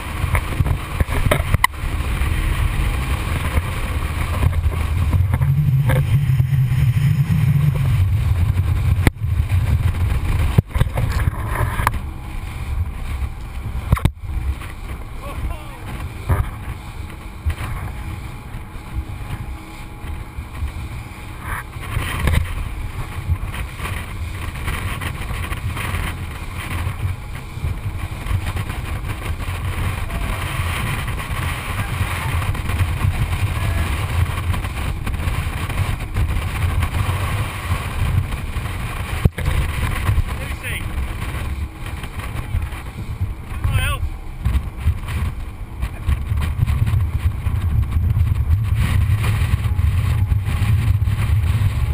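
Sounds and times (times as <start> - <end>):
boat engine rumble: 0.0 - 51.9
rushing water: 0.0 - 51.9
wind: 0.0 - 51.9.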